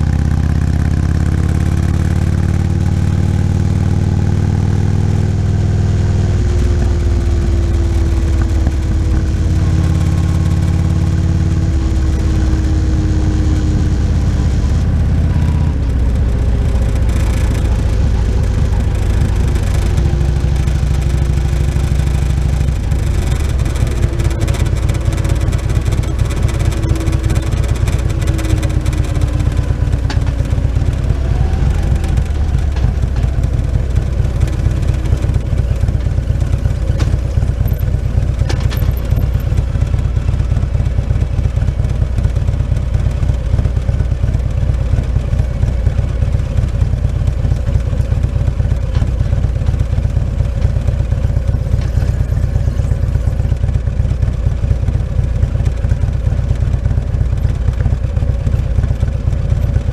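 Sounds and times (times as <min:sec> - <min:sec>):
motorcycle engine riding: 0:00.0 - 0:59.9.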